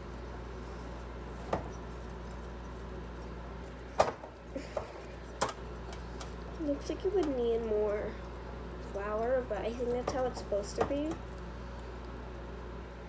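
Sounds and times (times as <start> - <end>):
whisk stirring batter: 0.0 - 3.8, 4.5 - 12.2.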